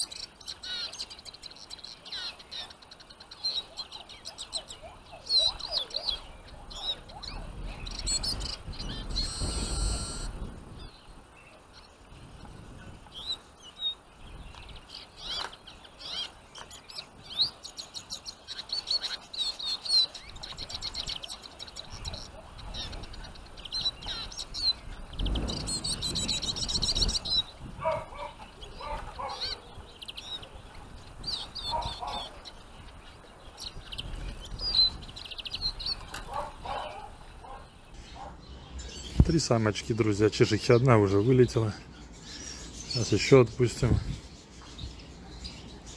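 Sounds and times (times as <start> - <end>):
finches chirping: 0.0 - 45.9.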